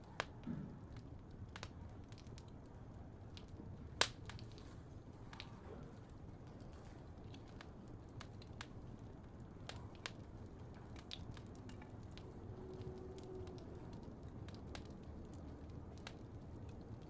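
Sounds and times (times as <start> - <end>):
fire crackles and pops: 0.0 - 17.0
low rumble of burning fire: 0.0 - 17.0.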